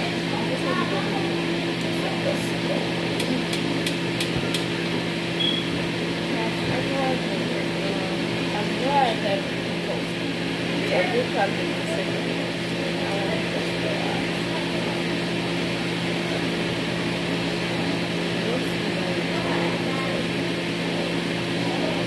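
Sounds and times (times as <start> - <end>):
machine hum with low drone: 0.0 - 22.0.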